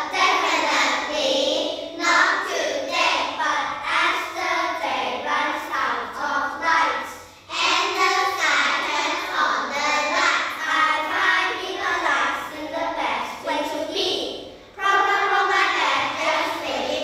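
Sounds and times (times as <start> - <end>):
children chanting in unison: 0.0 - 17.0.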